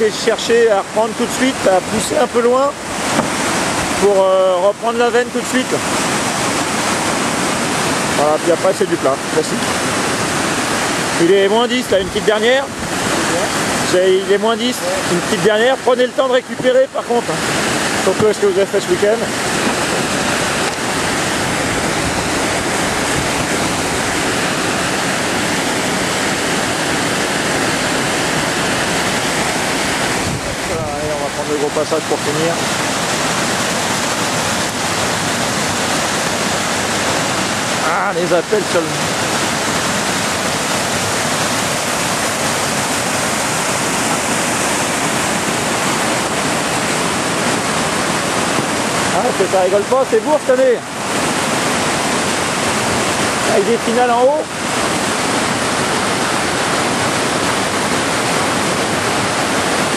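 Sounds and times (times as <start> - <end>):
whitewater rapids rushing: 0.0 - 59.9.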